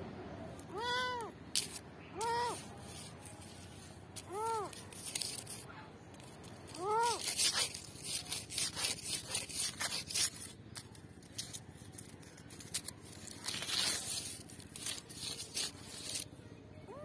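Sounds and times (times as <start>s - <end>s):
paws scratching on wire mesh: 1.5s - 16.3s.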